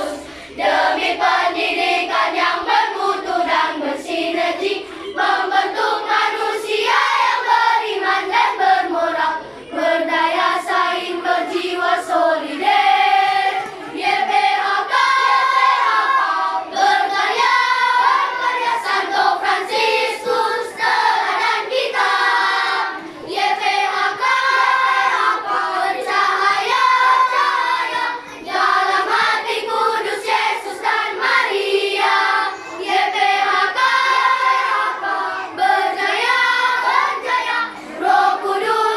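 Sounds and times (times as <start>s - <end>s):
children's choir singing a march: 0.0s - 38.9s.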